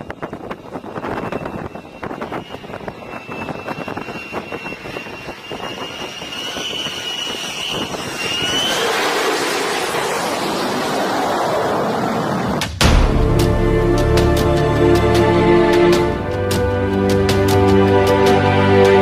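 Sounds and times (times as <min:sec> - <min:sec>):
jet engine whining: 0:00.0 - 0:19.0
rush of engine noise: 0:00.0 - 0:19.0.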